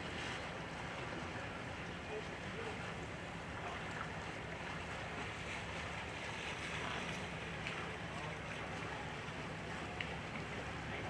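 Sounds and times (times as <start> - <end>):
boat engine droning: 0.0 - 11.0
rushing water: 0.0 - 11.0
wind: 0.0 - 11.0.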